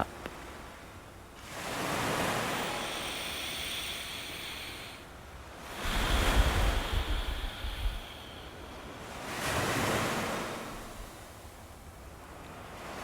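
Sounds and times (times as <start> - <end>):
ocean waves washing in: 0.4 - 13.0.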